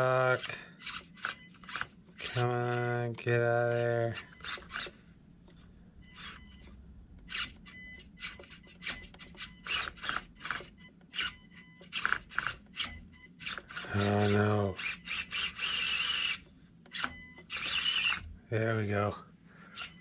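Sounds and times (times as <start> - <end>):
small electric motor whirring: 0.0 - 18.4, 19.7 - 20.0.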